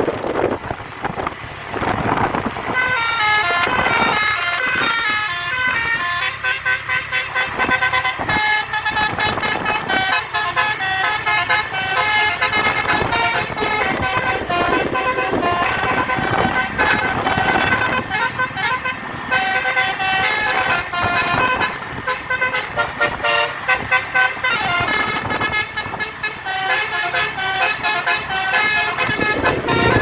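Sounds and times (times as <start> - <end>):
road and engine noise: 0.0 - 30.0
multi-tone bus air horn tune: 2.6 - 30.0.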